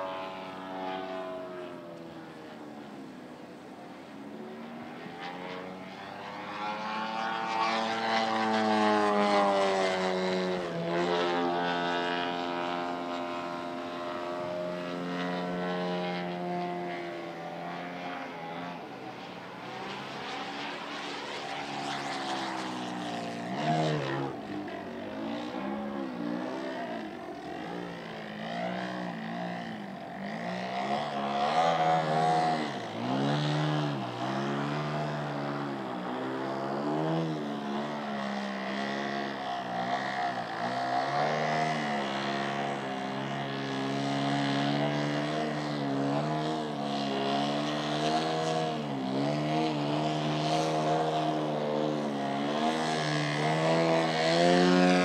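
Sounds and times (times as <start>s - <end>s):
model airplane engine and propeller: 0.0s - 55.0s.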